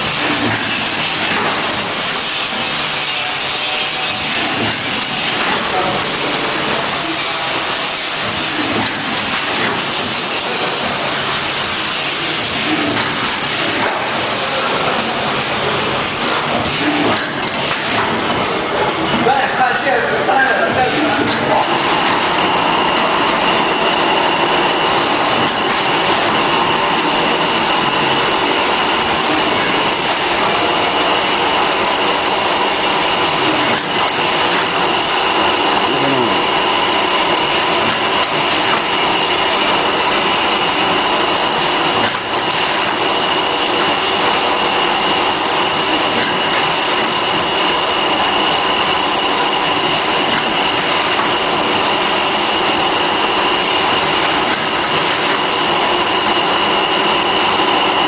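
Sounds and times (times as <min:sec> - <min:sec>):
high machine whine: 0:00.0 - 0:58.0
packaging machine whirring: 0:00.0 - 0:58.0.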